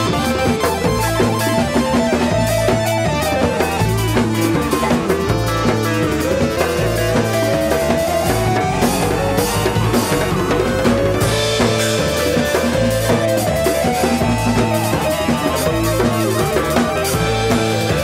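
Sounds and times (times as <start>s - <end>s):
drum kit steady beat: 0.0s - 18.0s
rock-funk band playing: 0.0s - 18.0s.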